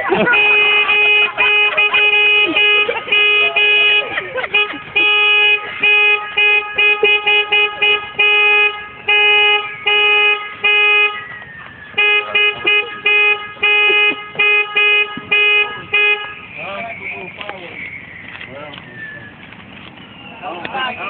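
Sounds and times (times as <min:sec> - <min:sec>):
car horn honking: 0:00.0 - 0:19.1.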